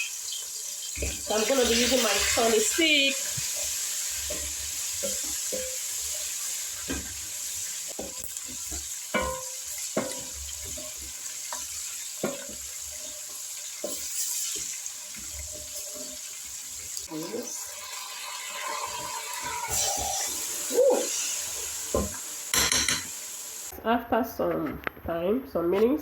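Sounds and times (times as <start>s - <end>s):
onions sizzling in oil: 0.0s - 23.7s.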